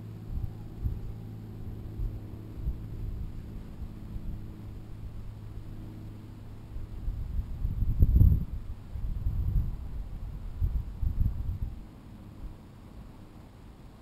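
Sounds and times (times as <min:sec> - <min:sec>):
wind buffeting microphone: 0:00.0 - 0:12.6
steady low hum: 0:00.0 - 0:14.0.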